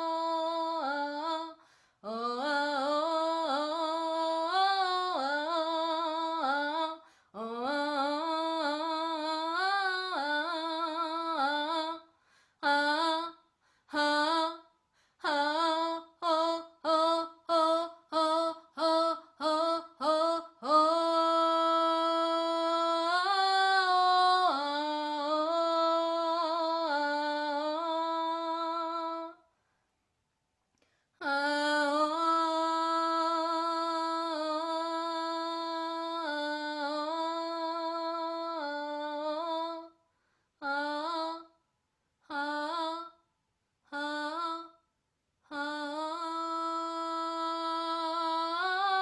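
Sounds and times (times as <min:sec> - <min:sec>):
woman singing wordlessly: 0:00.0 - 0:29.5, 0:31.2 - 0:40.0, 0:40.6 - 0:49.0.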